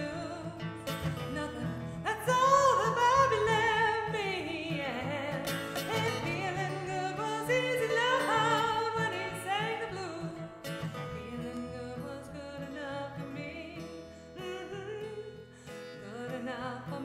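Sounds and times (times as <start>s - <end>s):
acoustic guitar strumming: 0.0s - 17.0s
woman singing: 0.0s - 17.0s.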